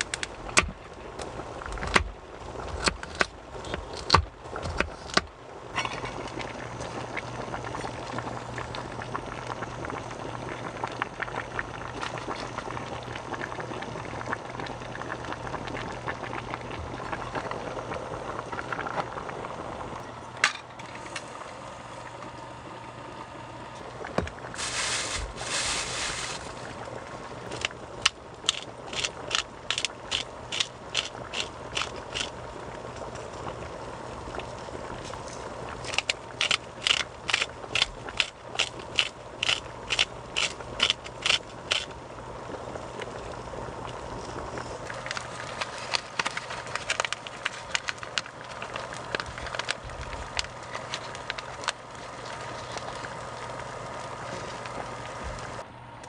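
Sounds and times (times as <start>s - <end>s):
water bubbling in a pot: 0.0s - 55.7s
electric hum: 0.0s - 56.0s.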